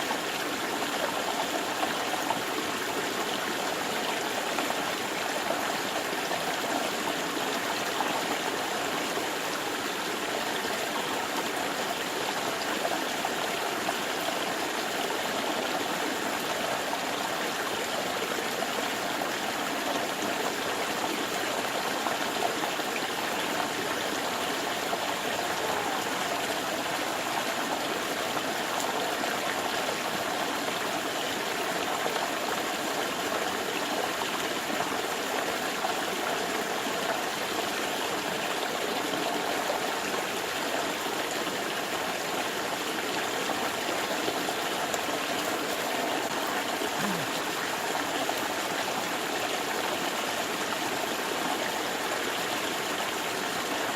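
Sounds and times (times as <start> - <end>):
stream water flowing: 0.0 - 53.9.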